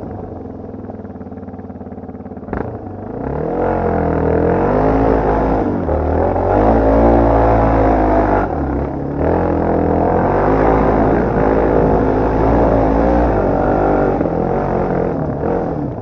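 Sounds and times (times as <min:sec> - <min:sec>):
dirt bike engine: 0:00.0 - 0:16.0.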